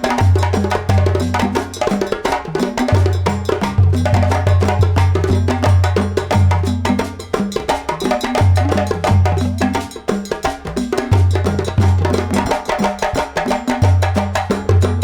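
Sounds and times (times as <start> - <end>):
hand percussion: 0.0 - 15.0
wood-block strikes: 0.0 - 15.0.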